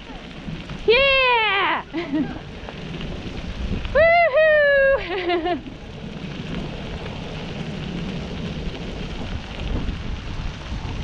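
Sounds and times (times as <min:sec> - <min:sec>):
wheels rumbling over pavement: 0:00.0 - 0:11.0
wind on microphone: 0:00.0 - 0:11.0.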